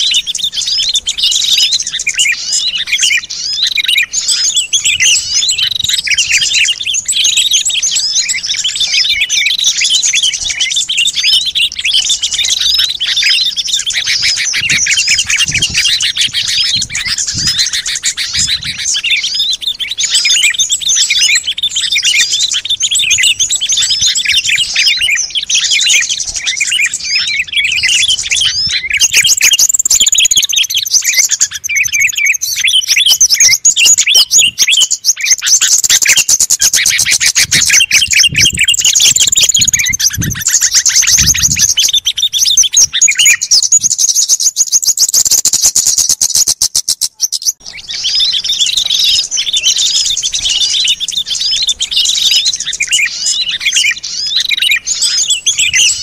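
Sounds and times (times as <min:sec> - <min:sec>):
chorus of songbirds chirping: 0:00.0 - 0:56.0
fast rattling bird trill: 0:00.0 - 0:56.0.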